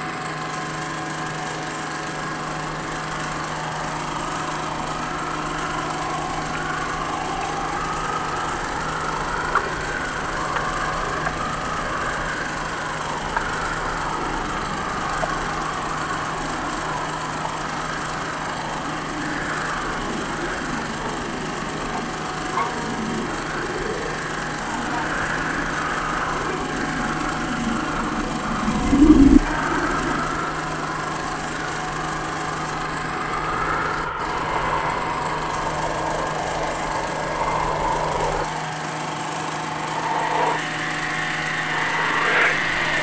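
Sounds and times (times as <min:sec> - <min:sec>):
mechanical drone with held tones: 0:00.0 - 0:43.0.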